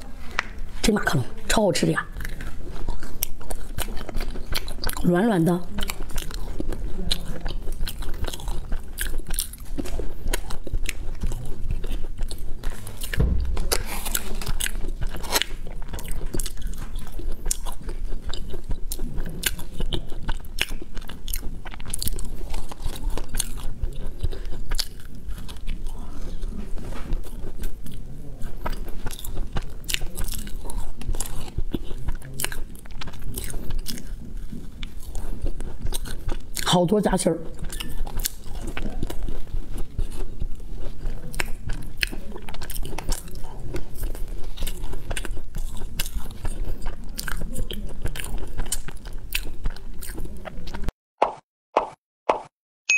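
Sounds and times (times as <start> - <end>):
moist chewing: 0.0 - 50.9
crunchy biting: 2.0 - 36.7, 37.5 - 52.5.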